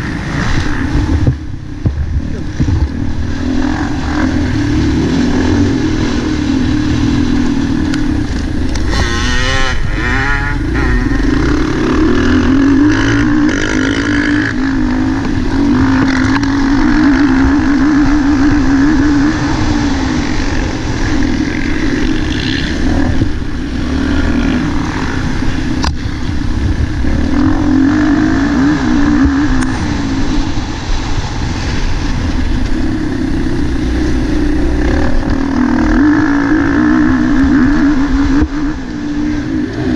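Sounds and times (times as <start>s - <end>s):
other motocross bike engines: 0.0s - 39.9s
motocross bike engine revving: 2.2s - 39.9s.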